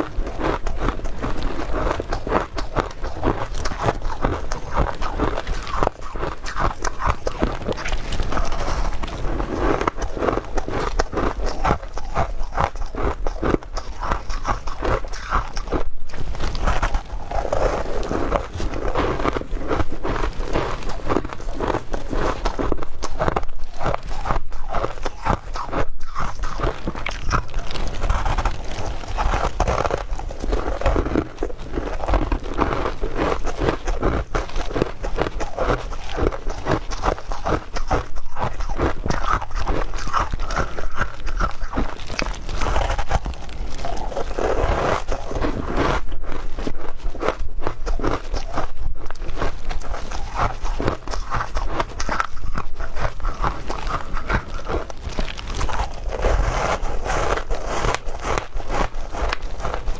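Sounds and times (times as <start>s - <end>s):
person crunching ice: 0.0s - 59.9s.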